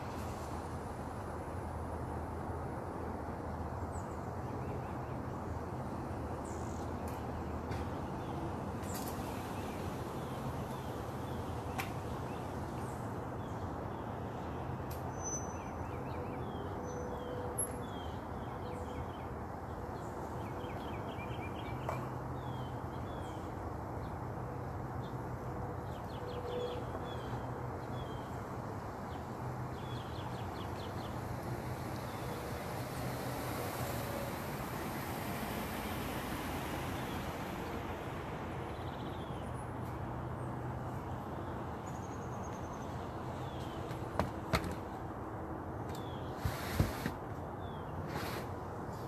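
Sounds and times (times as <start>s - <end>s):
steady background noise: 0.0s - 49.0s.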